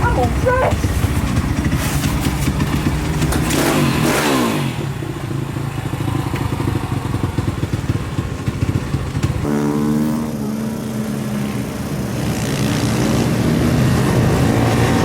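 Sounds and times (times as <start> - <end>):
pit bike engine: 0.0 - 15.0.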